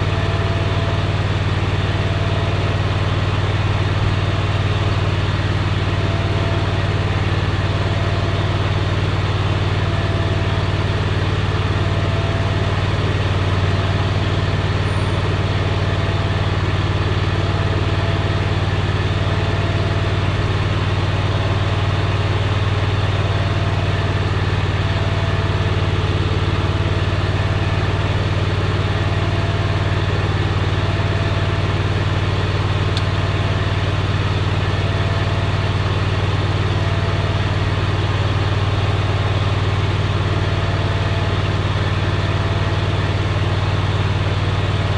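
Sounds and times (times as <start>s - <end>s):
mower engine idling: 0.0s - 44.9s.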